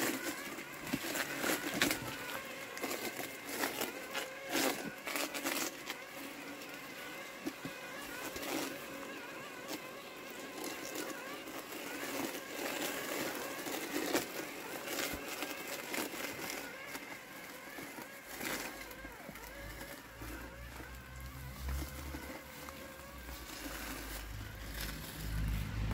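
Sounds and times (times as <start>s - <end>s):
electric motor whine: 0.0s - 25.9s.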